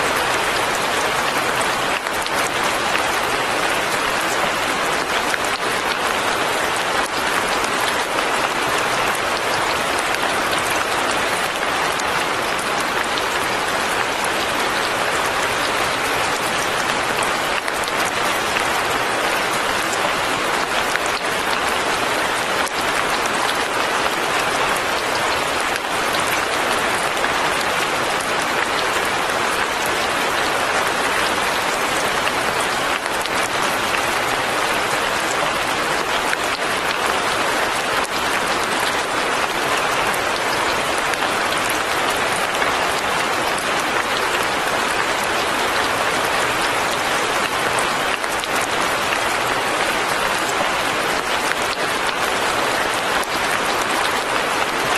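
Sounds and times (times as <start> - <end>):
light rain patter: 0.0 - 54.9.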